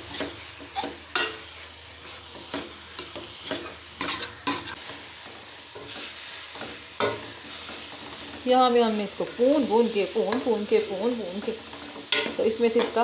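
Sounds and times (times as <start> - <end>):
metal spoon scraping pan: 0.0 - 8.6, 9.2 - 13.0
radish frying hiss: 0.0 - 13.0.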